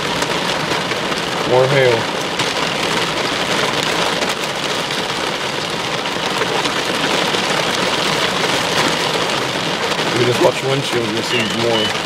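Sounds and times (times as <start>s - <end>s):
rain and hail on a vehicle: 0.0s - 12.0s.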